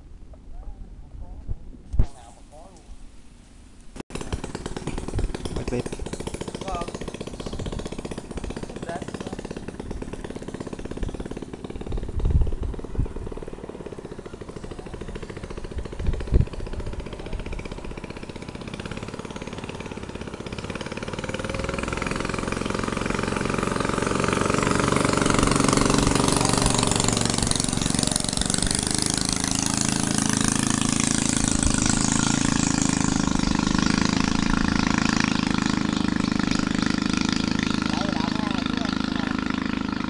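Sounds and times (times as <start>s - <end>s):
small engine running: 4.1s - 40.0s.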